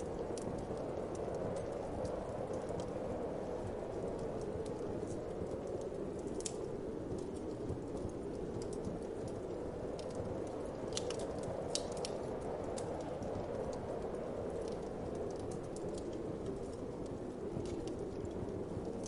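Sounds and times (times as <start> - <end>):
low rush of wind: 0.0 - 19.0
wood fire crackling: 0.0 - 19.0.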